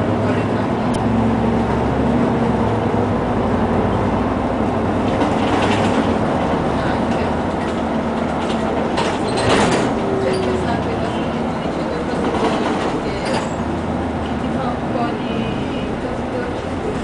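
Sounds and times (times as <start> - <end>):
bus engine hum: 0.0 - 17.0
road noise: 0.0 - 17.0.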